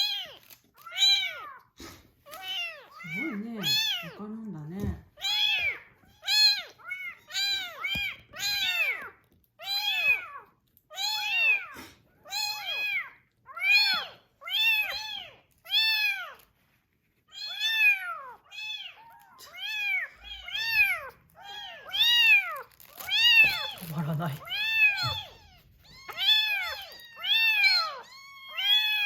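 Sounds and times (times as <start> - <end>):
kitten meowing: 2.3 - 4.2, 4.8 - 16.4, 17.3 - 29.0.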